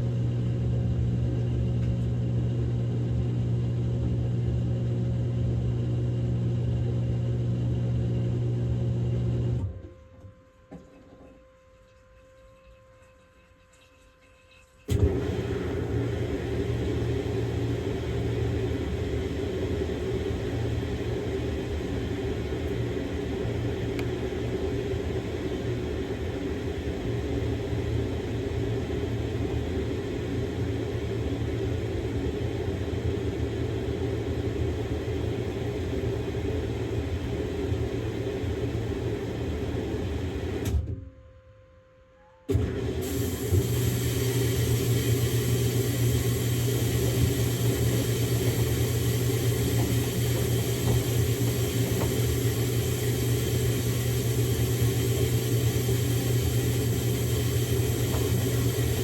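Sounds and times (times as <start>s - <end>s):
washing machine motor and drum hum: 0.0s - 40.9s, 42.5s - 59.0s.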